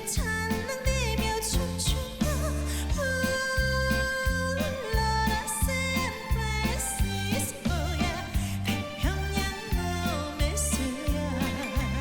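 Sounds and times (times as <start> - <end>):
bass and drums beat: 0.0 - 12.0.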